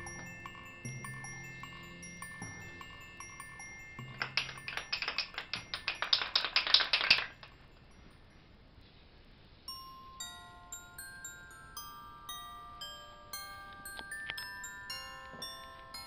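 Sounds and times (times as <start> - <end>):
tinkling glockenspiel music: 0.0 - 16.0.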